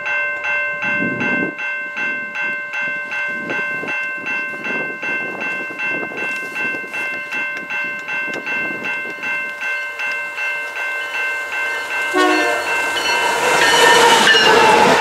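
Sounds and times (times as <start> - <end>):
low rumble of train: 0.0 - 15.0
railway warning bell ringing: 0.0 - 15.0.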